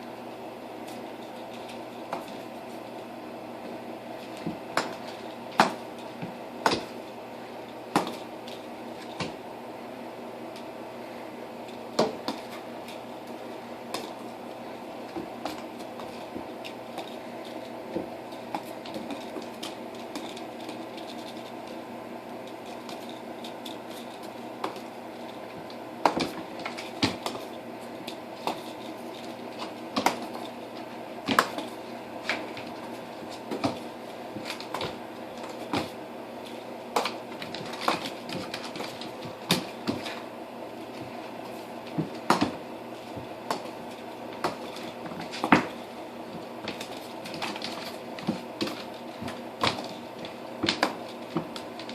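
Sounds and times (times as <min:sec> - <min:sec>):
steady hum: 0:00.0 - 0:51.9.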